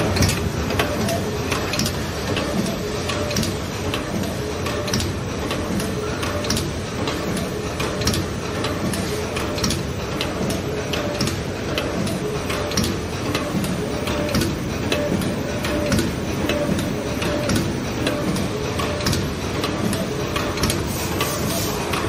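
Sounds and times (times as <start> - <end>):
machine mechanical clatter: 0.0 - 22.0
sharp machine clicks: 0.0 - 22.0.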